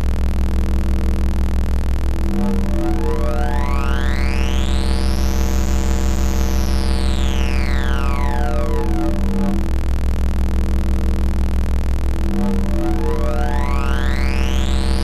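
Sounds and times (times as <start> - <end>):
synthesizer drone with filter sweep: 0.0 - 15.0.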